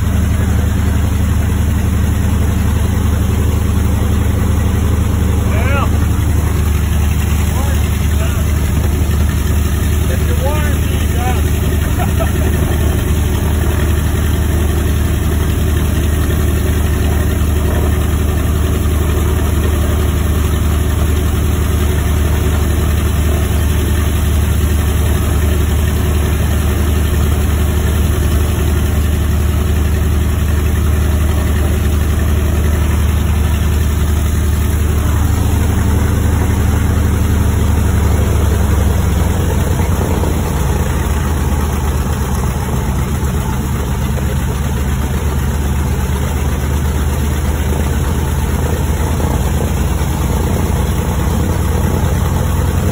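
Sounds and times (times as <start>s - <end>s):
radial aircraft engine idling: 0.0s - 52.9s.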